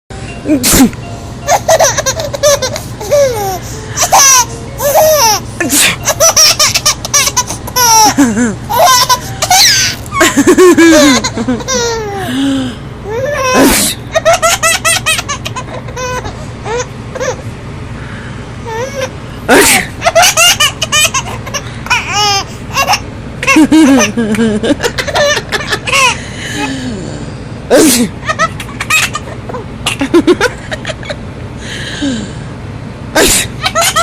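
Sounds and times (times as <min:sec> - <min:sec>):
baby giggling: 0:00.7 - 0:12.4, 0:13.0 - 0:17.4, 0:18.7 - 0:26.2, 0:28.0 - 0:31.2, 0:33.4 - 0:34.0.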